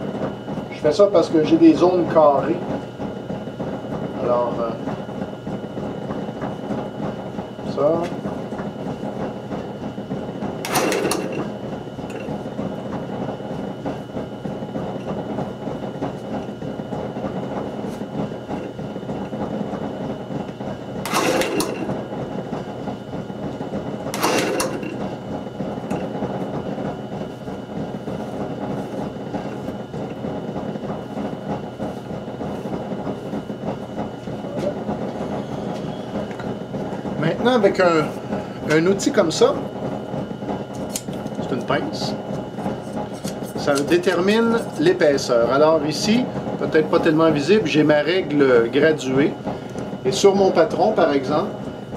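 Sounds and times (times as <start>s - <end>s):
wood lathe humming: 0.0s - 51.9s.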